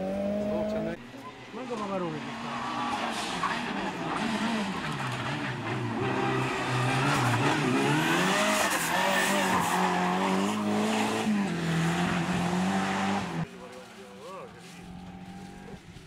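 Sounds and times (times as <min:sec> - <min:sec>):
car engine revving: 0:00.0 - 0:01.0, 0:01.6 - 0:16.0.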